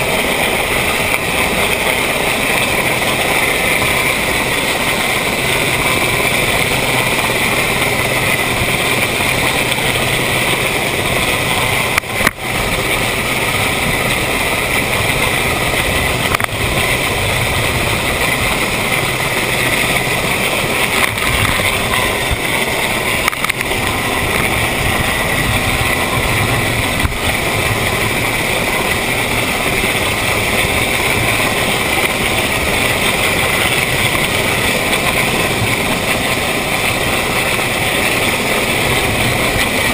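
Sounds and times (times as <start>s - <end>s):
helicopter rotors: 0.0s - 39.9s
outboard engine roaring: 0.0s - 39.9s
rushing wind: 0.0s - 39.9s.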